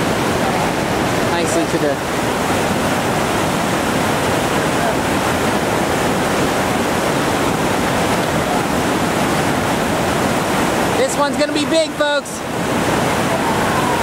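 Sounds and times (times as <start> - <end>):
whitewater rapid rushing: 0.0 - 14.0.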